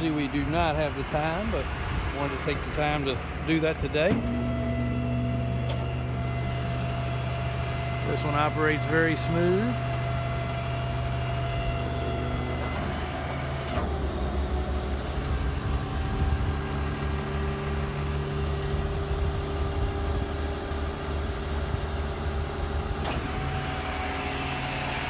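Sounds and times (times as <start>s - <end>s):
diesel engine hum: 0.0s - 25.0s
hydraulics hissing and humming: 0.0s - 25.0s.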